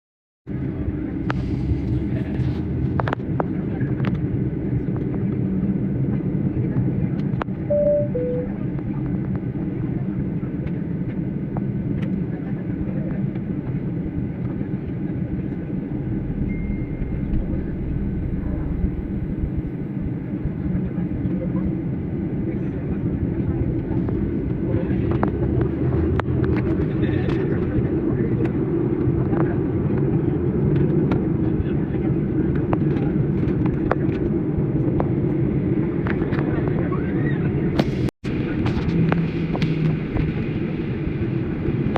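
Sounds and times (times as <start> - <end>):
airliner cabin rumble: 0.5 - 41.9
plane engines and airflow: 0.5 - 41.9.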